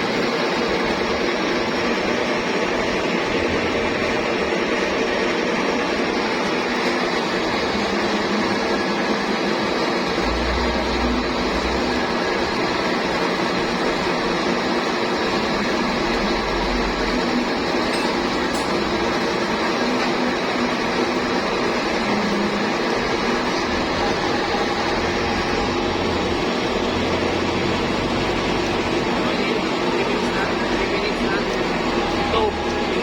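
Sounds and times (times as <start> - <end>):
metal lathe running: 0.0 - 33.0.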